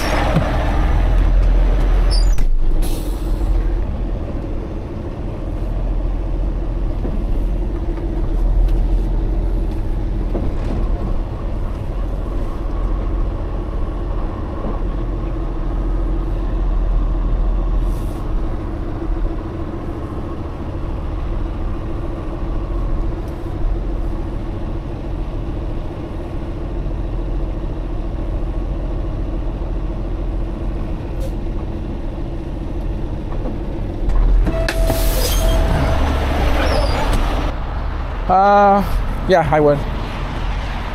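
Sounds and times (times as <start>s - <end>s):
truck diesel engine running: 0.0s - 39.7s.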